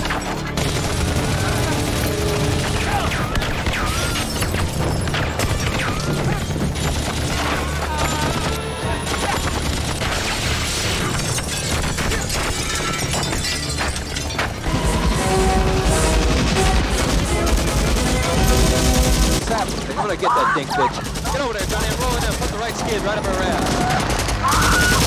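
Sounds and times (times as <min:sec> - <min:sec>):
gunfire bursts: 0:00.0 - 0:12.8, 0:14.6 - 0:25.0
dramatic music: 0:00.0 - 0:25.0.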